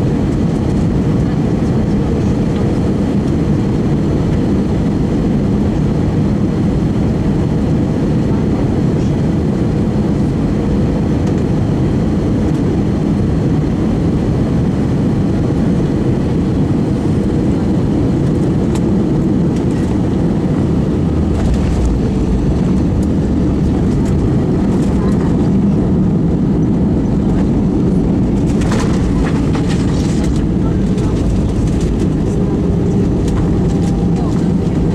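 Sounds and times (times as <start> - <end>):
aircraft cabin engine noise: 0.0 - 34.9
deep rumble: 0.0 - 34.9.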